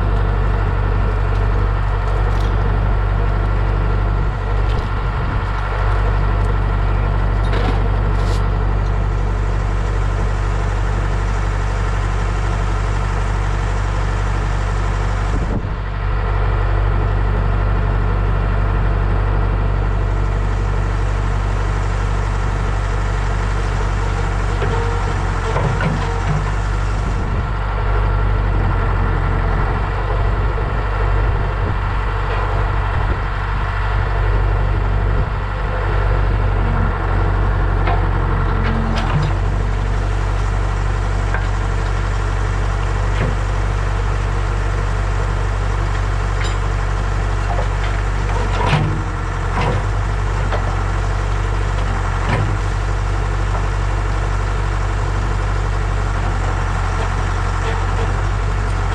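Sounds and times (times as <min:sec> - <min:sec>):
engine idling: 0:00.0 - 0:58.9.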